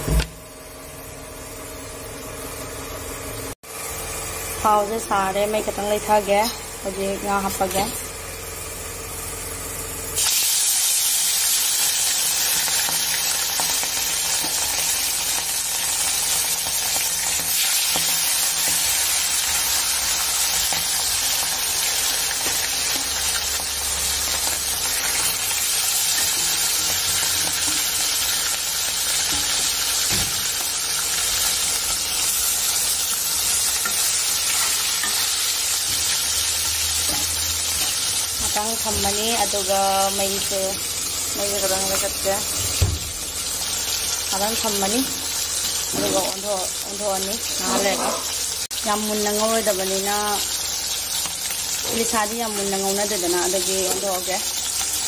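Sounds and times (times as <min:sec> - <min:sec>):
fish frying in hot oil: 0:00.1 - 0:55.0.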